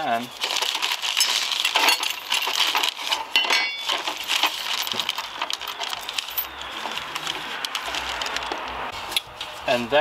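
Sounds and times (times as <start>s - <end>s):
small metal parts clinking: 0.1s - 8.6s.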